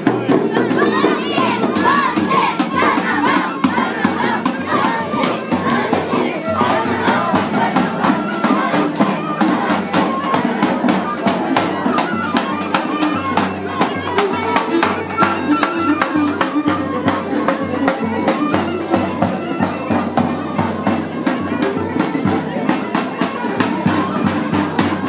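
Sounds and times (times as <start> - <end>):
large drum beat: 0.0 - 25.0
bagpipe droning melody: 0.6 - 25.0.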